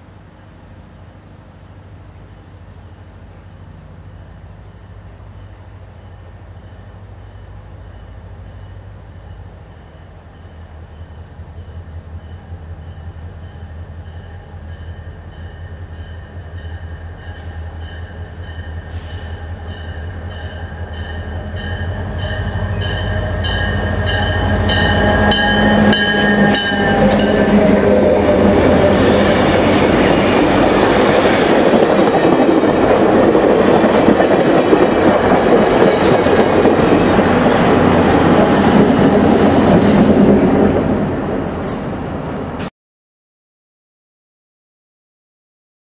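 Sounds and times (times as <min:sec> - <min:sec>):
diesel locomotive engines droning: 0:00.0 - 0:42.7
train wheels rolling on rails: 0:03.0 - 0:42.7.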